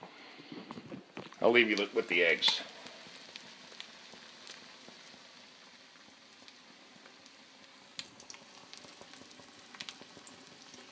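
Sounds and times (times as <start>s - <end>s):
eggs sizzling in a pan: 0.0s - 10.9s.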